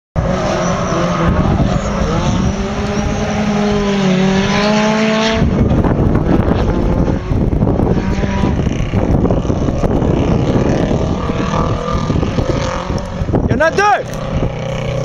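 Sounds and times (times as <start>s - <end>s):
rally car engine at high revs: 0.2s - 15.0s
rough rushing noise: 0.2s - 15.0s.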